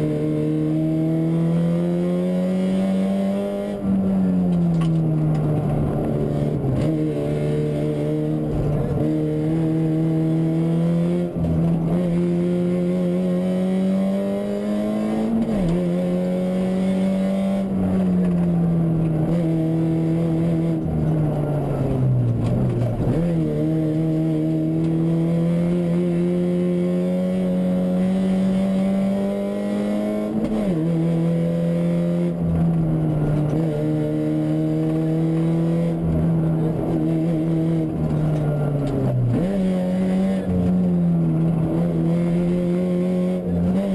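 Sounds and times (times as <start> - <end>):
rally car engine revving: 0.0 - 43.9.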